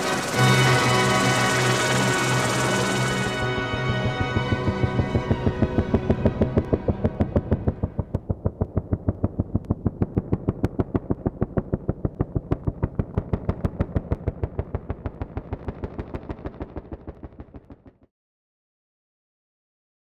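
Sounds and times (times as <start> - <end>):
helicopter rotor chopping: 0.0 - 18.1.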